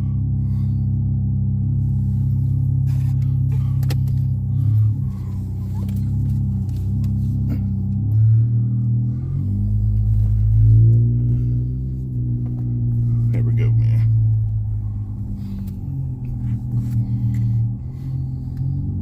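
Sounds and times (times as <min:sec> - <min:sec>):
car engine and exhaust droning: 0:00.0 - 0:19.0.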